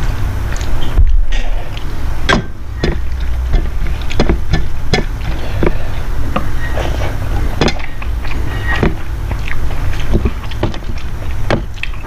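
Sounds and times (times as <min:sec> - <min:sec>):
person chewing: 0:00.0 - 0:12.0
steady low rumble: 0:00.0 - 0:12.0.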